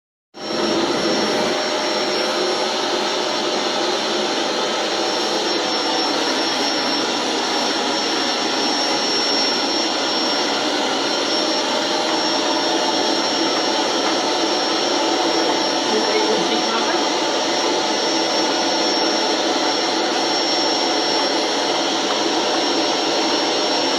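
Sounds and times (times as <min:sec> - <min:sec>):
vacuum cleaner with high whine: 0:00.3 - 0:23.9.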